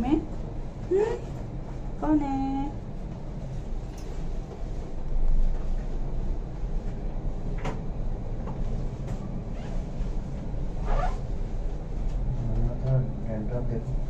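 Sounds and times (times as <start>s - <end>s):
lift car low rumble: 0.0s - 14.0s.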